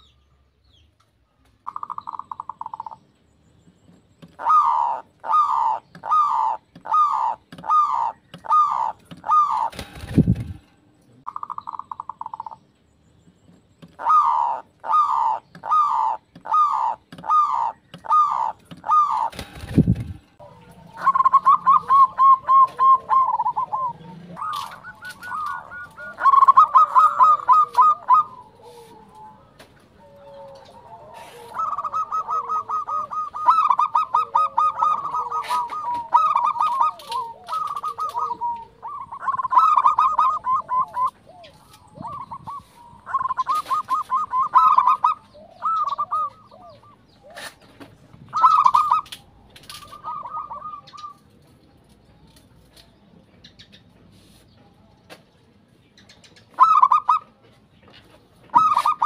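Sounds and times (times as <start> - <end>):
doves cooing: 1.6 - 3.1, 3.9 - 12.6, 13.8 - 51.8, 56.5 - 57.4, 58.0 - 59.0.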